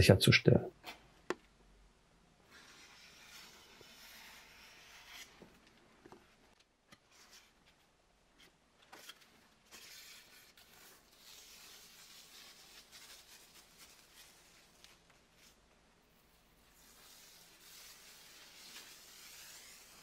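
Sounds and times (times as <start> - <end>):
tape being peeled off floor: 2.5 - 7.6, 8.4 - 20.0.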